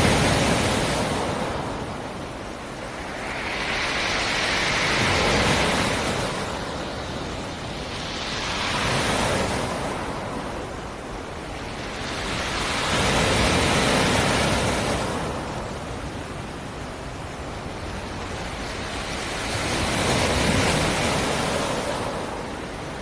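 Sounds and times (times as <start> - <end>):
waves breaking on rocky shore: 0.0 - 23.0.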